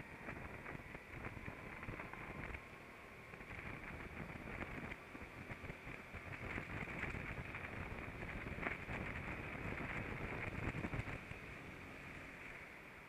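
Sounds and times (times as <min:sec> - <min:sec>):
muffled wind and engine rumble: 0:00.0 - 0:13.0.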